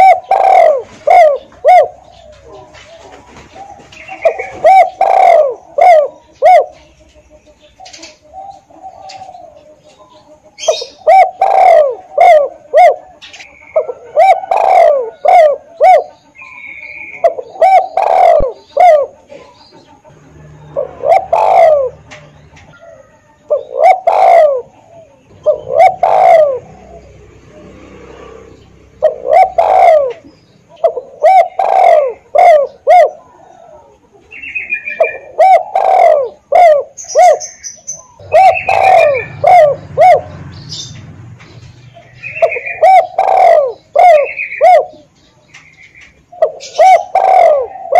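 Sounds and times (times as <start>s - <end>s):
dove cooing: 0.0s - 41.0s, 41.7s - 47.9s.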